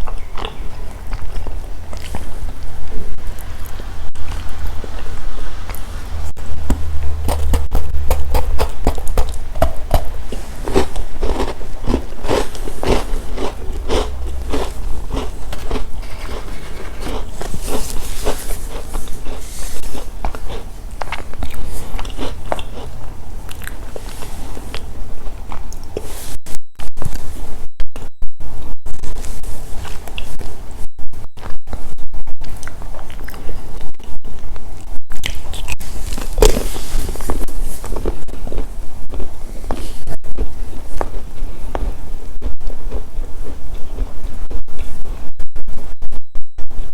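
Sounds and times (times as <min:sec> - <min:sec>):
person chewing crunchy snacks: 0:00.0 - 0:26.2, 0:32.3 - 0:45.1.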